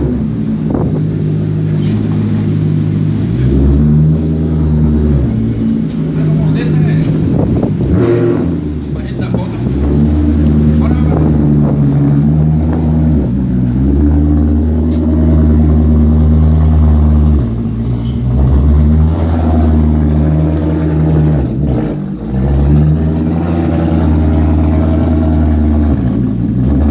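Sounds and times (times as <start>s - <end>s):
car engine and exhaust running: 0.0s - 26.9s.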